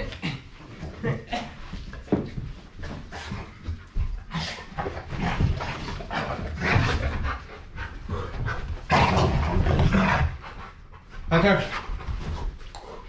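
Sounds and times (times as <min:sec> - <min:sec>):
dogs scuffling: 0:00.0 - 0:13.0
dogs panting: 0:00.2 - 0:13.0.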